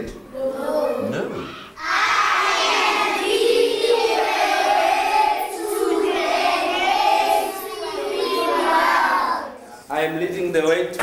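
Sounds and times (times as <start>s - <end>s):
children singing in unison: 0.0s - 9.7s.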